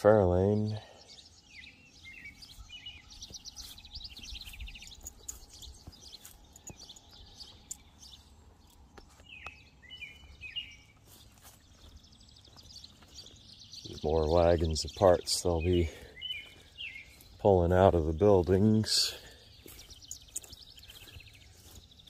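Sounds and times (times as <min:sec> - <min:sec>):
songbirds chirping: 0:00.0 - 0:22.0
bird trill: 0:00.6 - 0:22.0.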